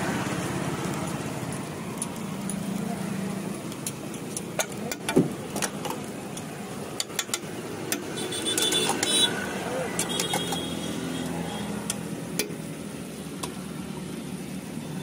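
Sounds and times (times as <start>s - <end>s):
street noise hum: 0.0s - 15.0s.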